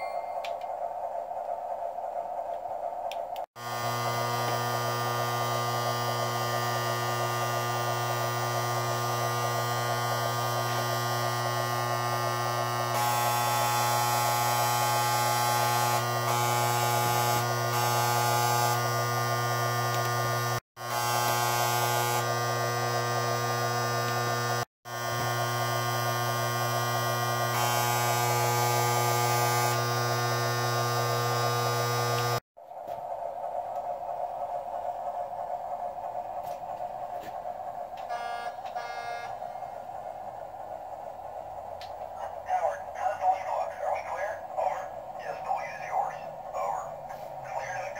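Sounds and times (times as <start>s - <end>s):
buzzy electrical hum: 0.0s - 47.9s.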